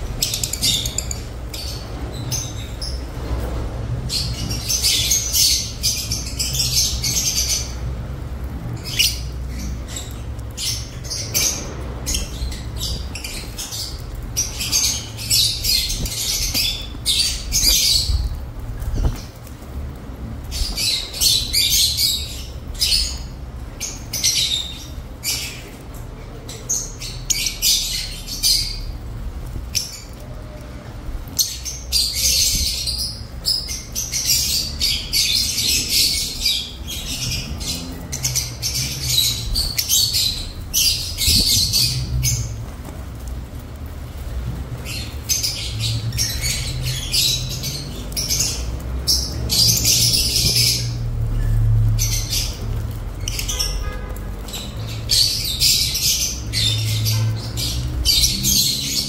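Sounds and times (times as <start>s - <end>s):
lovebirds chattering and squawking: 0.0s - 59.0s.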